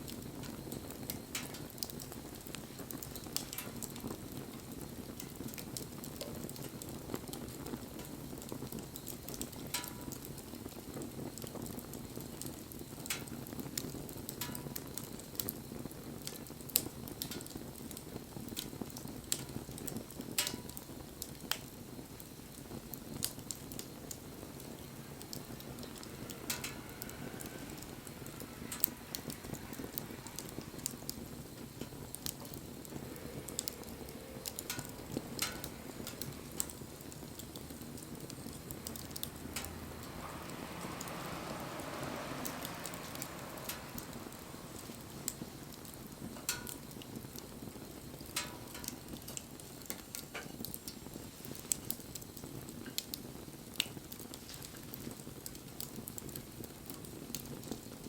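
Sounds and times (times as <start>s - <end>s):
burning wood crackling and popping: 0.0s - 58.0s
rush of bonfire flames: 0.0s - 58.0s.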